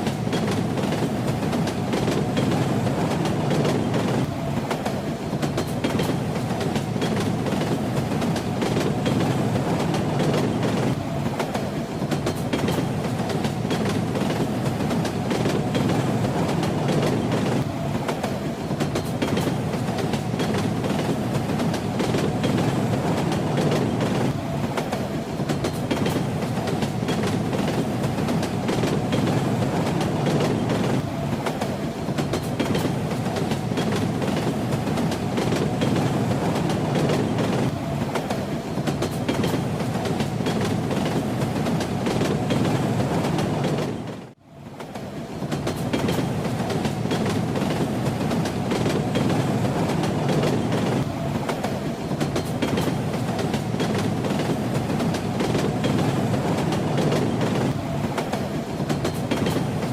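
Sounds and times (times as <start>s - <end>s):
train wheels rattling over rails: 0.0s - 59.9s.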